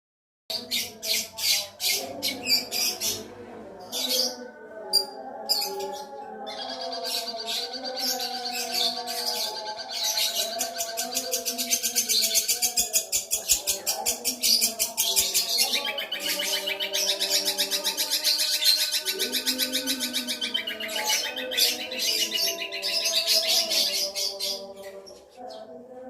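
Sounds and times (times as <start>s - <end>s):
shrike singing chattering song: 0.5s - 25.7s.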